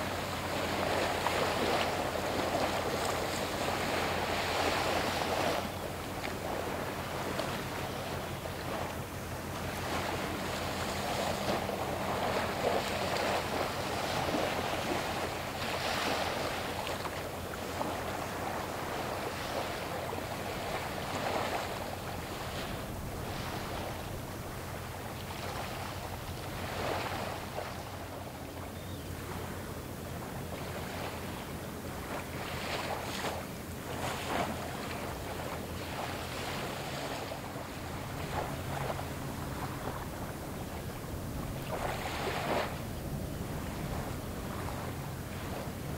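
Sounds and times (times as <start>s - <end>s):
wind noise on microphone: 0.0s - 28.2s, 28.8s - 45.9s
large ship engine drone: 0.0s - 45.9s
wave wash: 0.0s - 45.9s.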